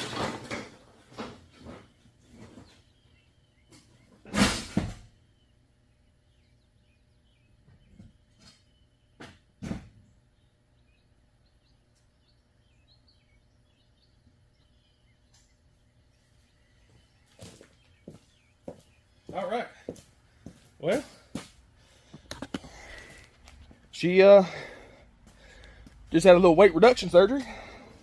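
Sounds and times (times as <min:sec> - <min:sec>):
birds chirping faintly: 0:01.0 - 0:28.0.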